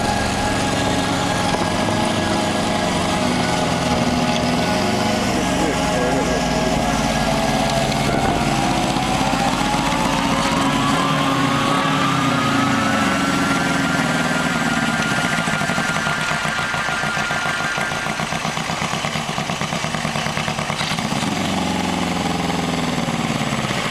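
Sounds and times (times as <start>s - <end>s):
thin rising whine: 0.0s - 22.7s
motorcycle engine running: 0.0s - 23.9s.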